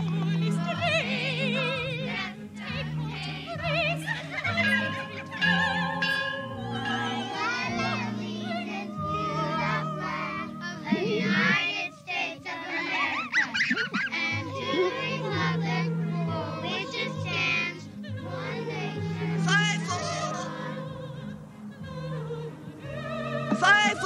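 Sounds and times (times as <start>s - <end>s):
orchestral accompaniment: 0.0s - 13.2s, 13.8s - 24.0s
young voices singing a ballad: 0.0s - 24.0s.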